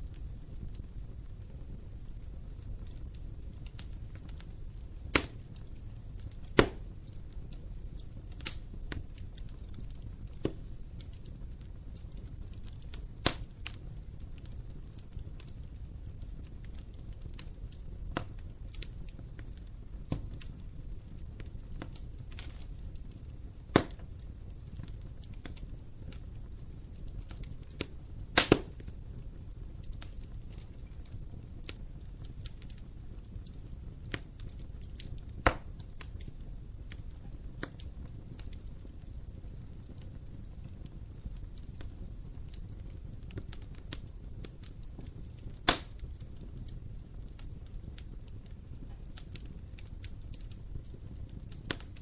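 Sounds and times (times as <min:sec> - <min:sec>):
burning logs popping: 0:00.0 - 0:52.0
fire crackling: 0:00.0 - 0:52.0
fire flames rumbling: 0:00.0 - 0:52.0.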